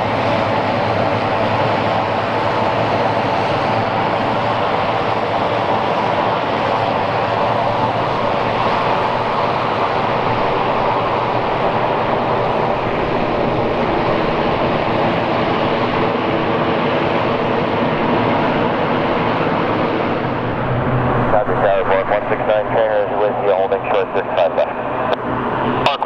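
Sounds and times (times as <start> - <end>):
steady engine hum: 0.0 - 26.0
turboprop engines running: 0.0 - 26.0.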